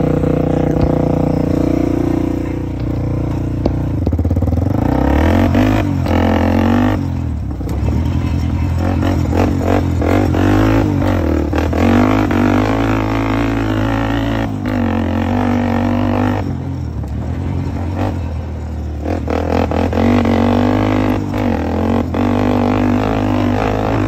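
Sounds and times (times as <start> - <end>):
quad bike engine revving: 0.0 - 24.0.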